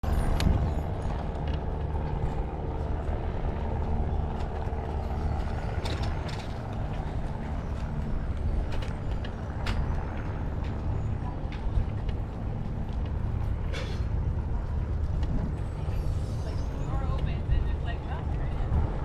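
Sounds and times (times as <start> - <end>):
traffic engine rumble: 0.0 - 19.0.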